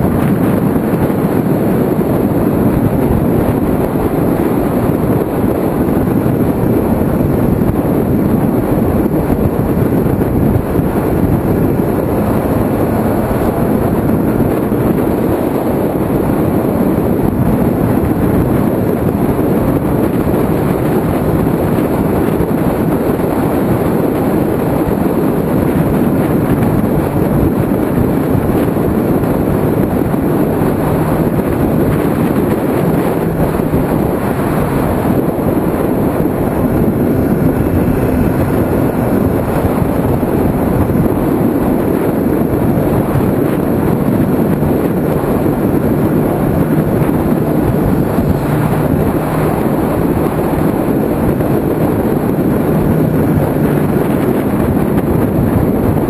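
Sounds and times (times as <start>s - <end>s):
muffled motorcycle engine: 0.0s - 56.0s
wind rush over microphone: 0.0s - 56.0s.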